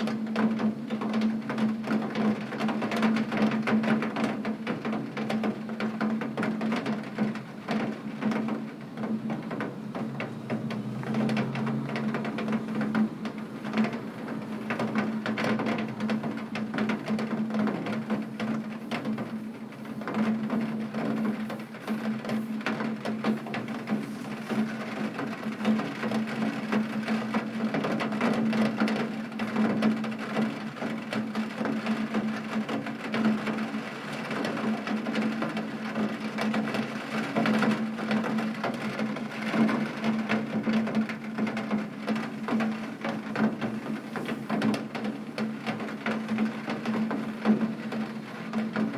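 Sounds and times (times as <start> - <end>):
heavy rain on window glass: 0.0 - 48.9.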